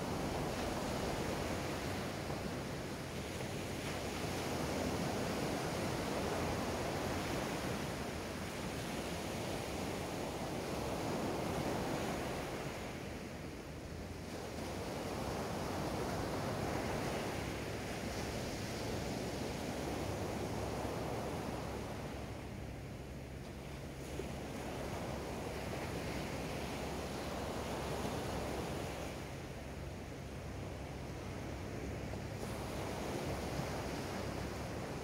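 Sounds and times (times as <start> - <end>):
sea waves breaking on beach: 0.0 - 35.0.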